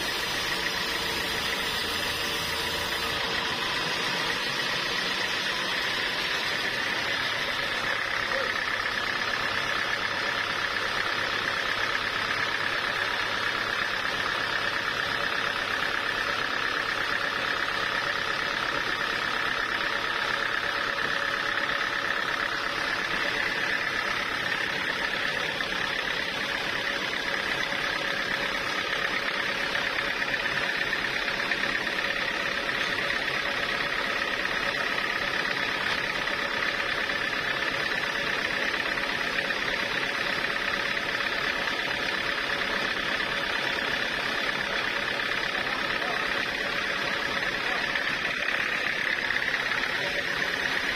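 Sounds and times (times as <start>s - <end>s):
high machine whine: 0.0s - 50.9s
sawmill machinery running: 0.0s - 50.9s.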